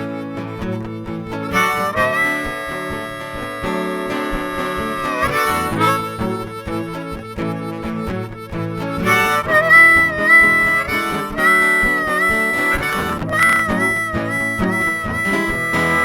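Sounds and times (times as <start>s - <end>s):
guitar accompaniment: 0.0s - 16.0s
harmonica solo: 0.0s - 16.0s.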